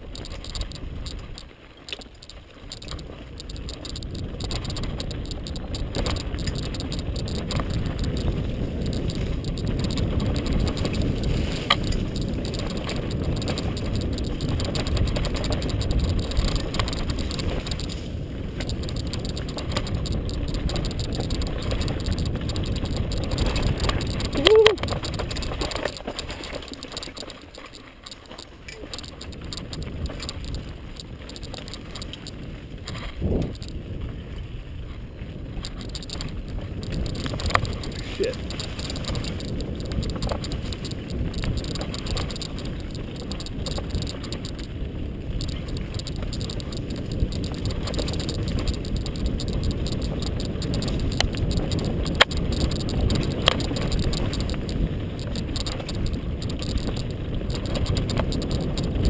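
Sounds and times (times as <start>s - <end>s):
scattered clicks and knocks: 0.0s - 33.8s, 34.9s - 59.0s
mountain bike rattling: 0.0s - 59.0s
wind rumbling on microphone: 0.0s - 59.0s.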